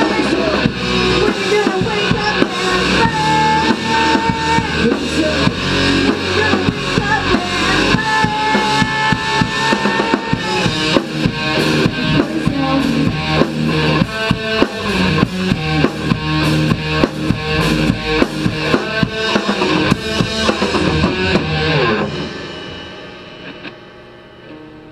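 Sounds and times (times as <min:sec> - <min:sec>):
rock music with drums and guitar: 0:00.0 - 0:24.9.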